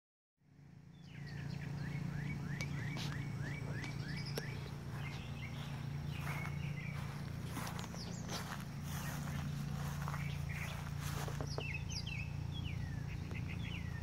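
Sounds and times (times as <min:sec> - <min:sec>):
steady low hum: 0:00.4 - 0:14.0
songbird whistling: 0:01.0 - 0:14.0.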